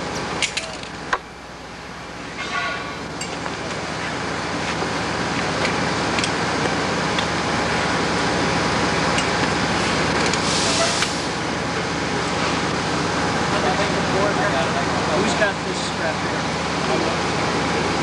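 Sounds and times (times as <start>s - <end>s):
engine running with rushing noise: 0.0s - 18.0s.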